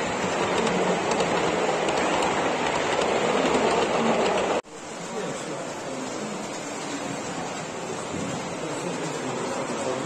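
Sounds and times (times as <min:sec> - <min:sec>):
busy hall noise: 0:00.0 - 0:10.0
model train running: 0:00.0 - 0:10.0.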